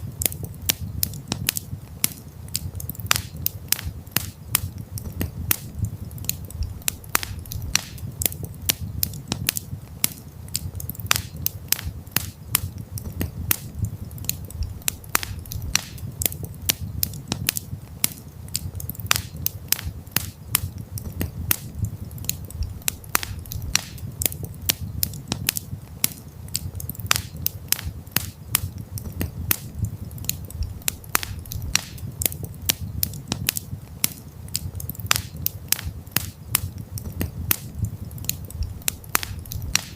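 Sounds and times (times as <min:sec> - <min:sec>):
campfire pops and snaps: 0:00.0 - 0:39.9
low rumble of flames: 0:00.0 - 0:39.9.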